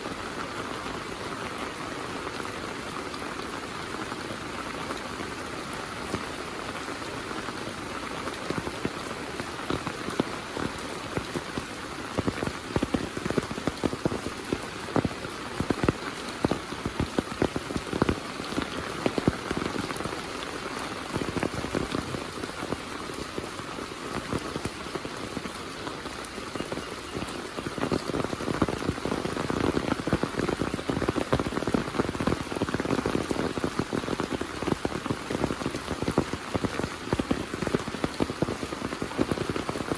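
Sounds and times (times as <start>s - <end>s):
close raindrop strikes: 0.0s - 39.9s
heavy rain falling: 0.0s - 39.9s.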